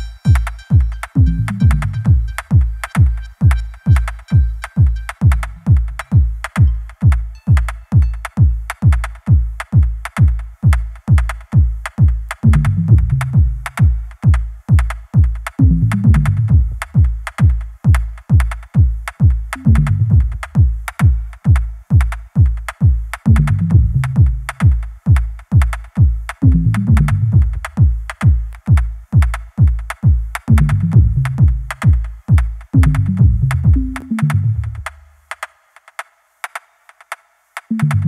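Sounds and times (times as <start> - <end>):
electronic dance music: 0.0 - 17.6, 18.6 - 25.2, 26.3 - 35.0, 37.6 - 38.0.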